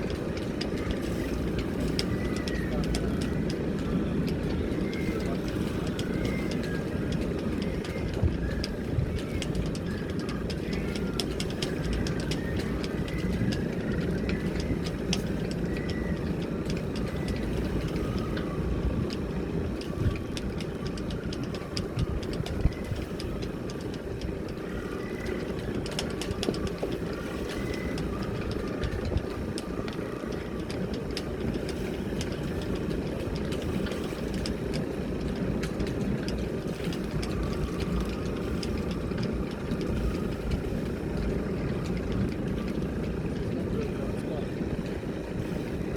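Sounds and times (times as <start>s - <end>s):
boat engine idling: 0.0s - 45.9s
wind buffeting microphone: 0.0s - 45.9s.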